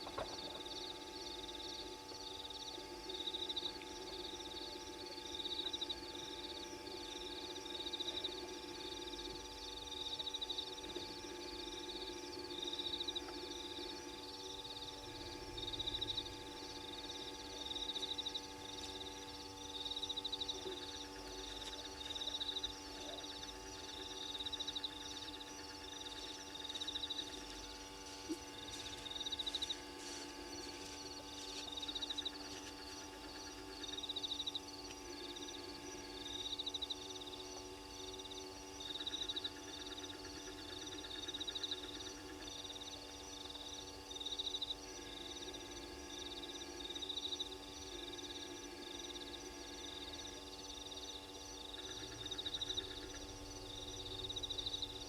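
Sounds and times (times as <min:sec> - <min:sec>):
continuous drone of animal calls: 0:00.0 - 0:55.0.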